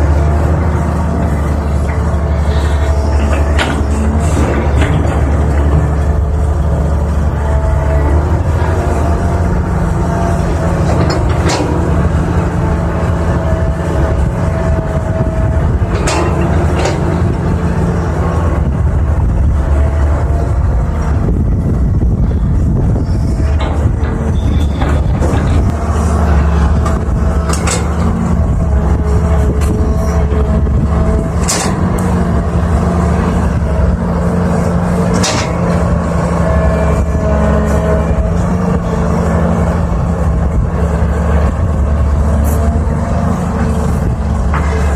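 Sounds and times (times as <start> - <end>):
excavator diesel engine rumbling: 0.0 - 44.9.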